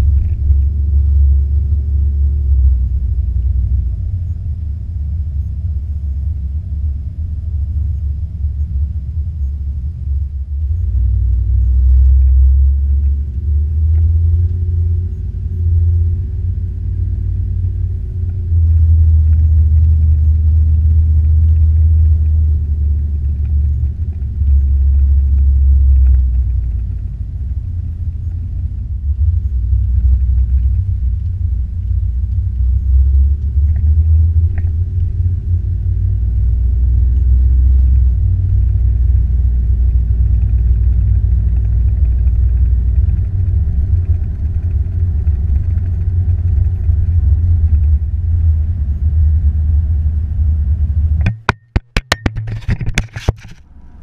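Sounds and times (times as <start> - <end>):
truck engine and exhaust drone: 0.0 - 54.0.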